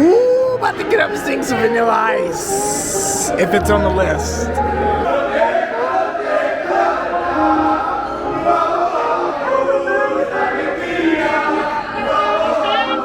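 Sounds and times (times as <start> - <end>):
backing track music: 0.9 - 13.0
people singing karaoke: 2.3 - 13.0.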